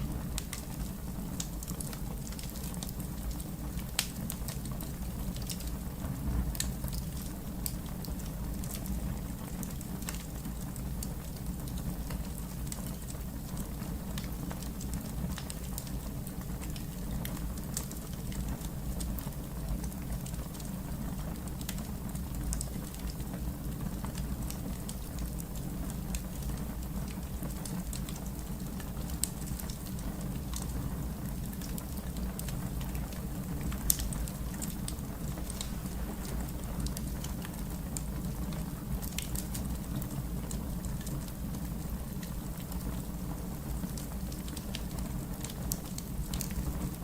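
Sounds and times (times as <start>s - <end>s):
wood fire crackling: 0.0s - 47.0s
fire pops and snaps: 0.2s - 8.9s, 9.5s - 20.7s, 21.5s - 47.0s.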